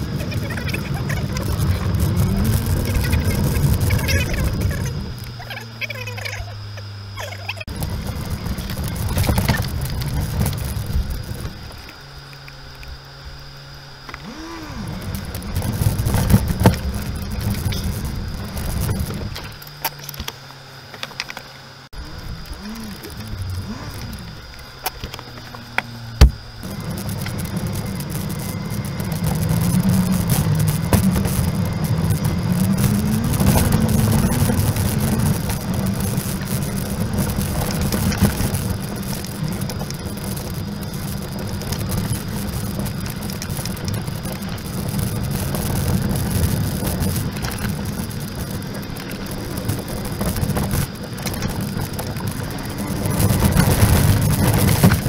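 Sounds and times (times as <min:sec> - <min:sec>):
low engine and tyre drone: 0:00.0 - 0:55.0.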